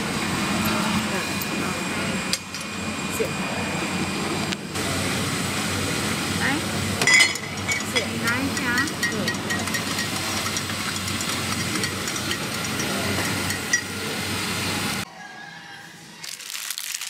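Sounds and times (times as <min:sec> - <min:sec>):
busy coffee shop din: 0:00.0 - 0:17.0.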